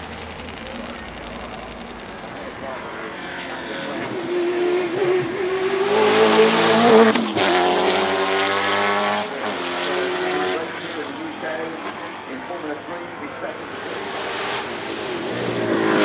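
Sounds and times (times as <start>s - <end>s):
race car engine accelerating past: 0.0s - 12.1s, 13.5s - 16.0s.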